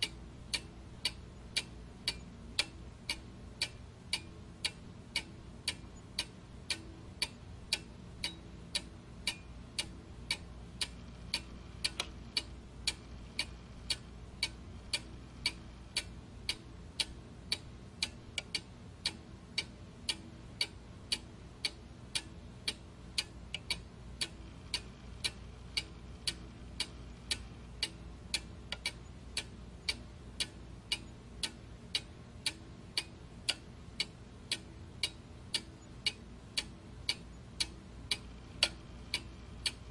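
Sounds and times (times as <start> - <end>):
faint low hum: 0.0 - 39.9
steady ticking: 0.0 - 39.9.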